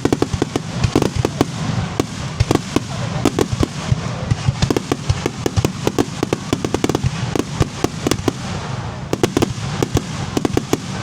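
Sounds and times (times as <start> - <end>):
fireworks popping and cracking: 0.0 - 11.0.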